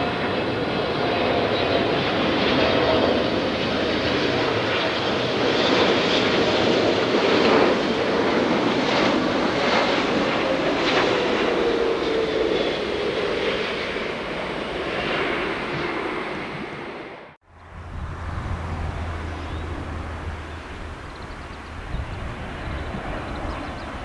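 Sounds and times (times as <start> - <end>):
jet aircraft flying low past: 0.0 - 24.0.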